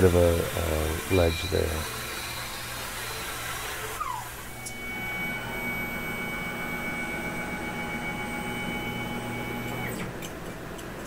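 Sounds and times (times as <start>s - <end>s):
mill cutting aluminium: 0.0s - 9.9s
falling machine whine: 0.0s - 10.1s
steady machine hum and whine: 0.0s - 11.0s.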